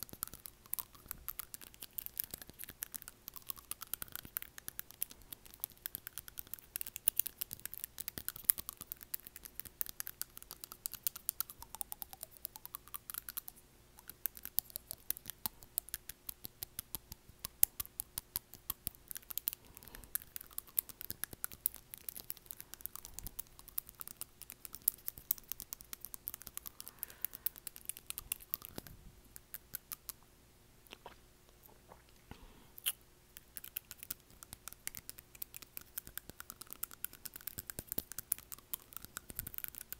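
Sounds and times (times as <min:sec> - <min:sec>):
teeth clicking on acrylic nail: 0:00.0 - 0:30.2, 0:32.8 - 0:39.9.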